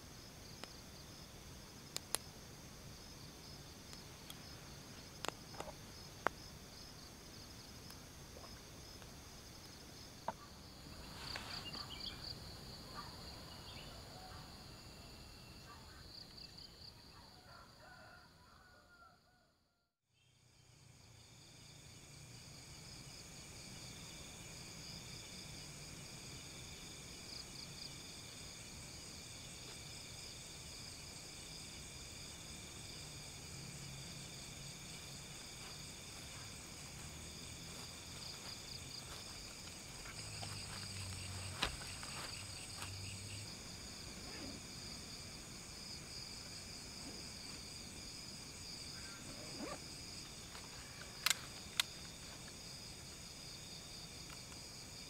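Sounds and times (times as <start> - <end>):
crickets and insects chirping: 0.0 - 19.2, 20.1 - 55.0.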